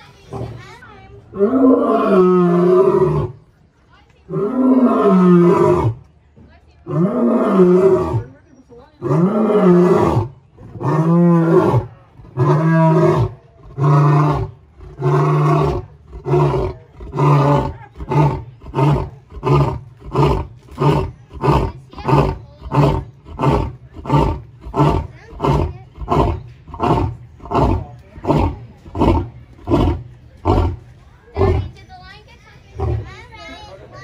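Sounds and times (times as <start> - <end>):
lion roaring: 1.3 - 3.4, 4.3 - 6.0, 6.9 - 8.2, 9.0 - 31.8, 32.8 - 33.1.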